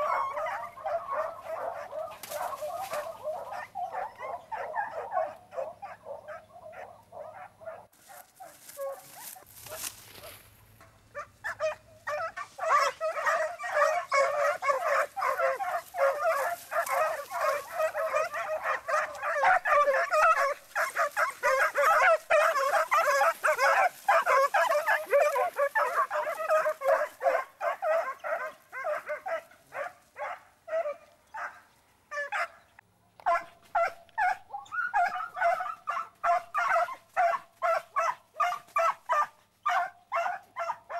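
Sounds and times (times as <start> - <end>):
hounds baying and yelping: 0.0 - 40.9.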